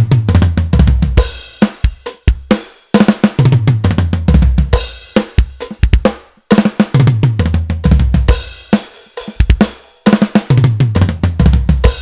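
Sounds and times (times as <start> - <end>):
acoustic drum kit playing: 0.0 - 12.0.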